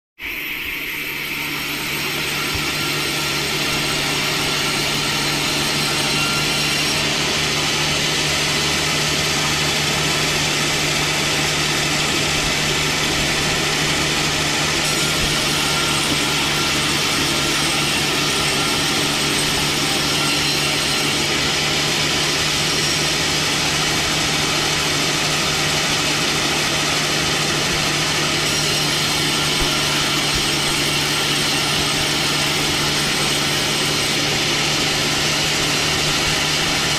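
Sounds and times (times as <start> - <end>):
power saw cutting wood: 0.2 - 36.9.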